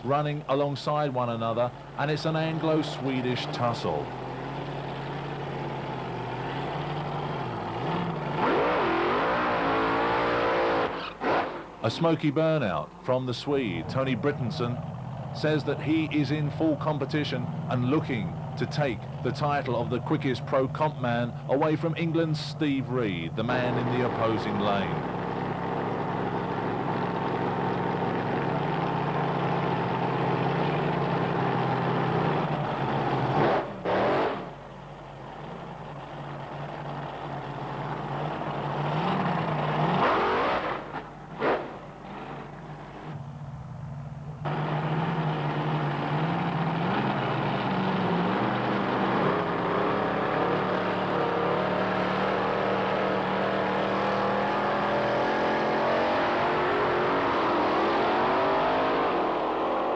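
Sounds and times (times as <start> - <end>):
dragster engines idling and revving: 0.0 - 59.9.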